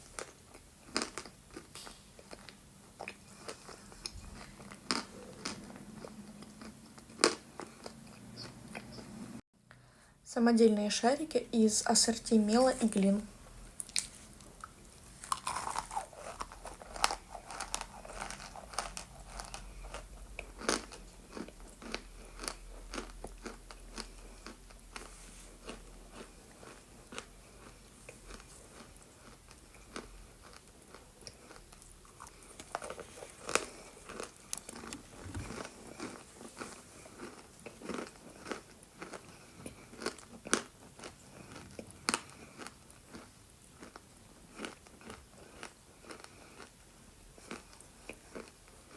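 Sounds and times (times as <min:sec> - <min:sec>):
chewing: 0:00.2 - 0:09.2, 0:13.8 - 0:48.9.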